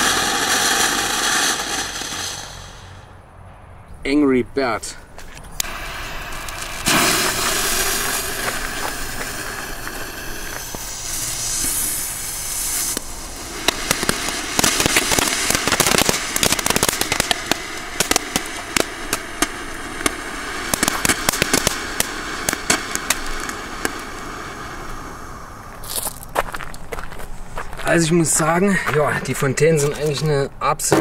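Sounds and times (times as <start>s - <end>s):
firework crackling and popping: 0.0s - 3.1s, 5.3s - 31.0s
firework fountain hissing sparks: 0.0s - 3.1s, 5.6s - 28.5s.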